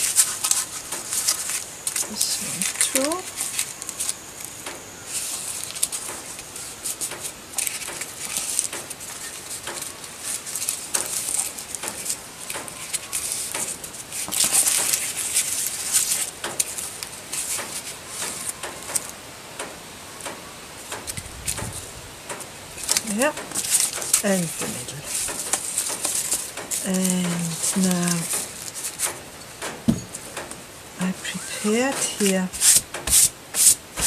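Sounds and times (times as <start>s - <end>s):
paper rustling and folding: 0.0s - 19.2s, 20.8s - 34.0s.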